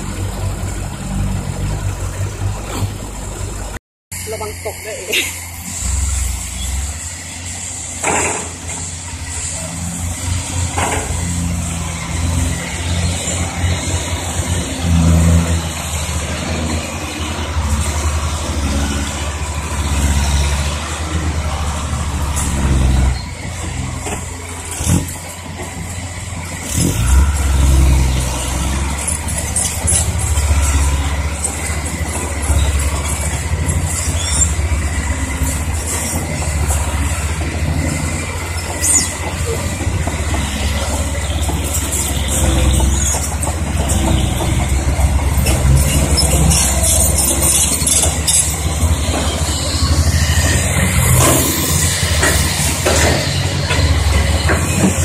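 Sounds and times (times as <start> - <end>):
dump truck diesel engines: 0.0 - 55.0.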